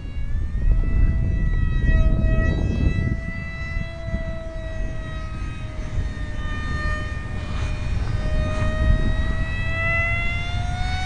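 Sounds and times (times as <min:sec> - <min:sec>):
electric motor whining: 0:00.0 - 0:11.0
wind rumbling on microphone: 0:00.0 - 0:11.0.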